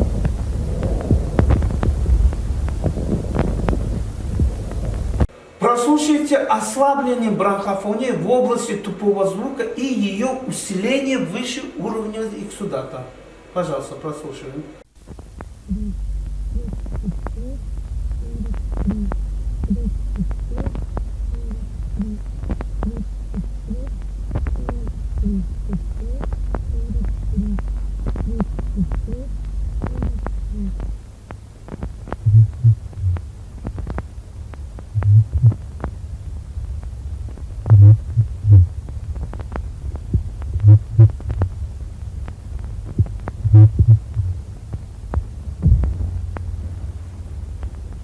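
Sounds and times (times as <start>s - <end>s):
steady low hum: 0.0s - 5.8s, 6.6s - 48.0s.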